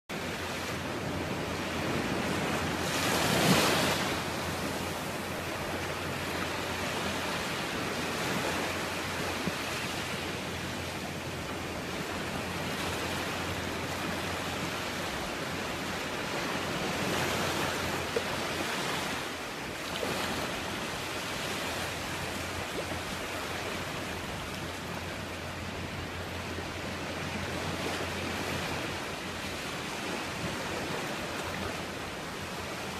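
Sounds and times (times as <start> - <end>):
waves breaking on a beach: 0.1 - 32.9.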